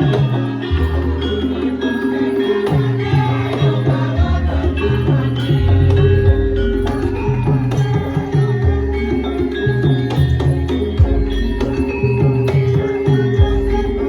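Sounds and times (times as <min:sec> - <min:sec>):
gamelan music: 0:00.0 - 0:14.0
jingling percussion: 0:00.0 - 0:14.0.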